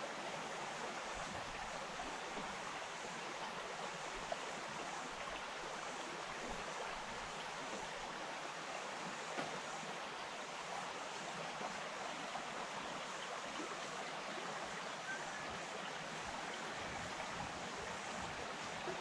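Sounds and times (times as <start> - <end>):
stream babbling over stones: 0.0 - 19.0.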